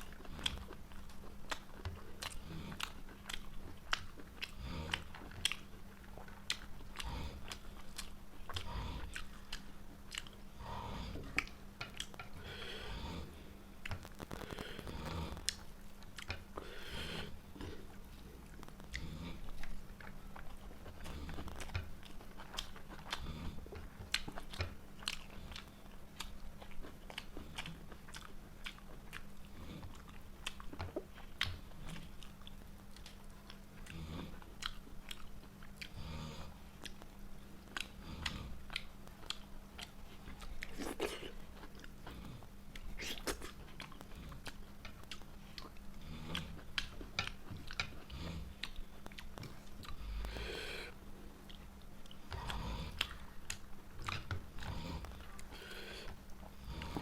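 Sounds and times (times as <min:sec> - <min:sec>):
faint steady hum: 0:00.0 - 0:57.0
person chewing food: 0:00.0 - 0:57.0.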